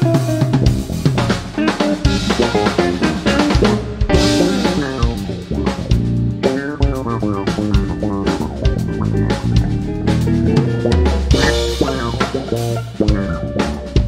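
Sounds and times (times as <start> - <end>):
electric bass: 0.0 - 14.0
electric guitar: 0.0 - 14.0
fast drum hits: 0.0 - 14.0.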